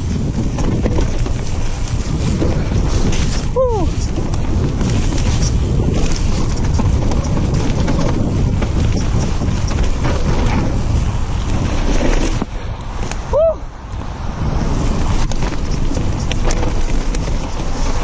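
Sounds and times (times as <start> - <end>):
knocks and rattles: 0.0 - 12.4, 15.0 - 18.0
bike tyres rumbling on mud: 0.0 - 18.0
wind buffeting microphone: 0.0 - 18.0.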